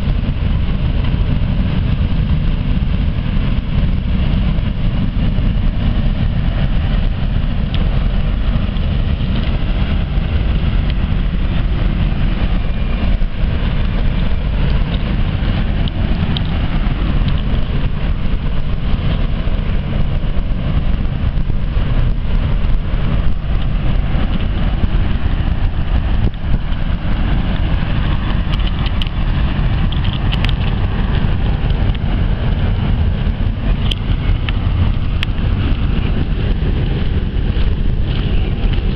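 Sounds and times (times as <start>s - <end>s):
low engine rumble: 0.0s - 38.9s.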